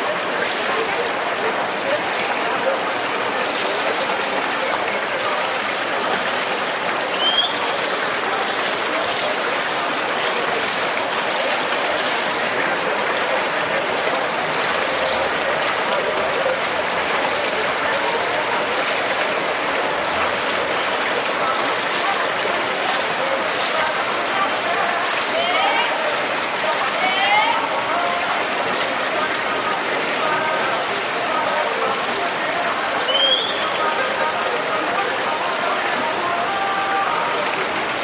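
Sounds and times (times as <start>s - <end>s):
swimmers splashing water: 0.0s - 38.0s.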